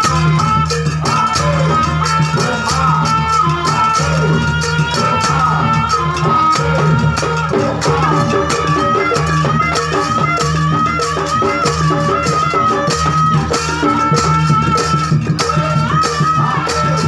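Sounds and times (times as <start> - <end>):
pitched percussion: 0.0 - 17.0
rattling jingling accompaniment: 0.0 - 17.0
wavering high melody: 0.0 - 17.0.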